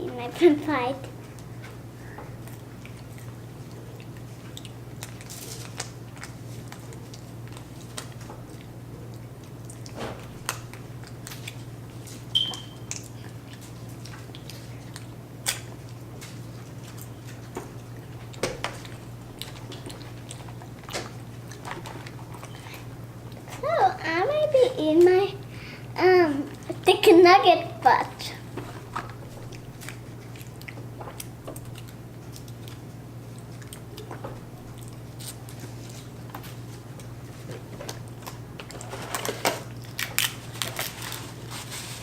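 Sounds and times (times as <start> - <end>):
children chewing food: 0.0 - 42.0.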